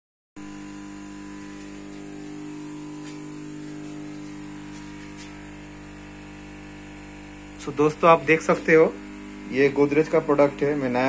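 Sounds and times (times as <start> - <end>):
steady machine hum: 0.4 - 11.0.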